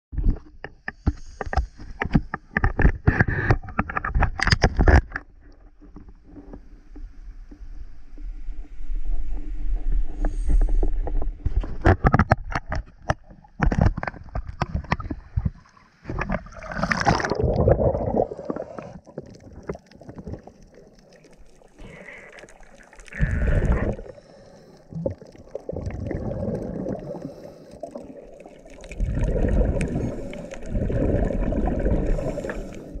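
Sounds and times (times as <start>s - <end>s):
underwater gurgling and bubbling: 2.5s - 33.0s.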